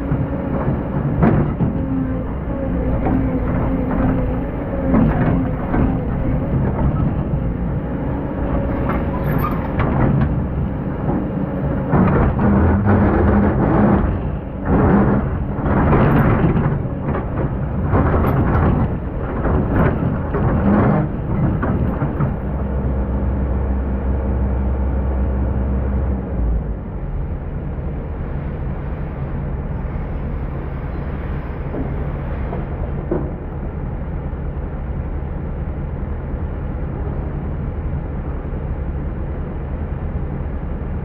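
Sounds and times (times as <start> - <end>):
excavator diesel engine: 0.0 - 41.0.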